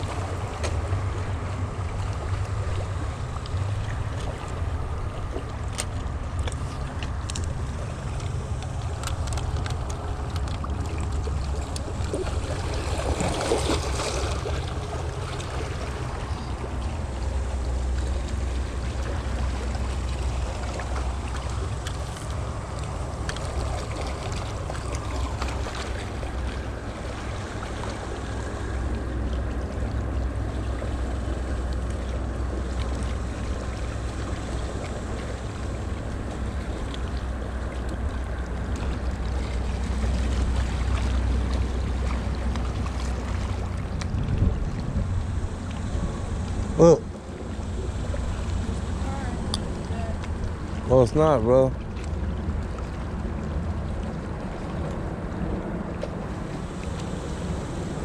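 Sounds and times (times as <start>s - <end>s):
wind rumble on microphone: 0.0s - 58.0s.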